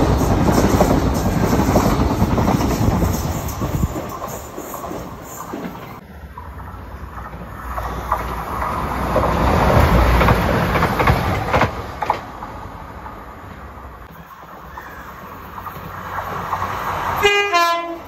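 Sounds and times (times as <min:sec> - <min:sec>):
train running past: 0:00.0 - 0:18.0
wheels clicking over rail joints: 0:00.0 - 0:18.0.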